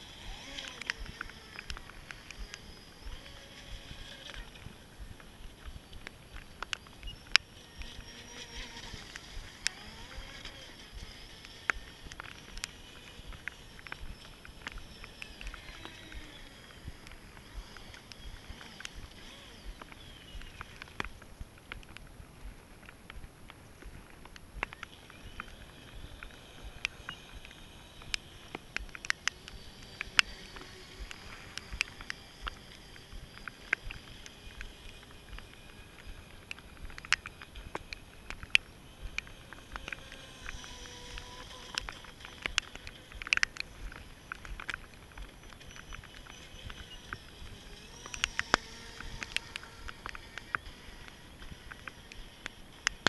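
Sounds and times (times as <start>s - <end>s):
distant electric motor whine: 0.0s - 53.0s
sharp clicks: 0.0s - 53.0s.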